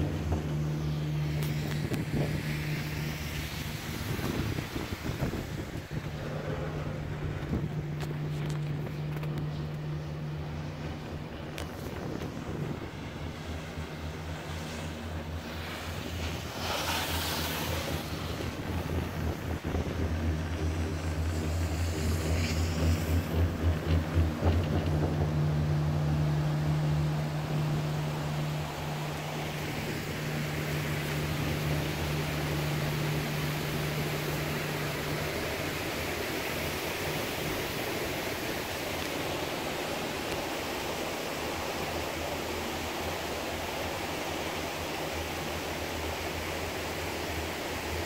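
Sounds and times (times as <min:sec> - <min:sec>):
wind noise on microphone: 0:00.0 - 0:41.3
gondola low hum: 0:00.0 - 0:48.0.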